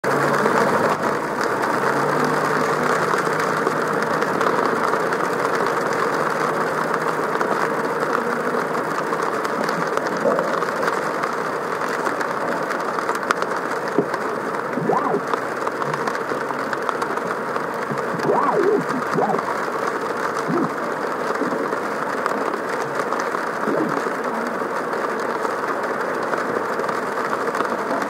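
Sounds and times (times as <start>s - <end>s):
tyres rushing on wet road: 0.1s - 28.0s.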